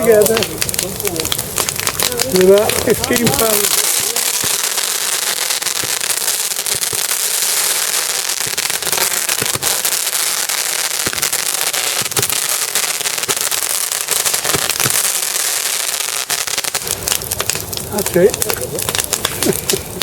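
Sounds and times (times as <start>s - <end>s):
firework hissing and crackling: 0.0s - 20.0s.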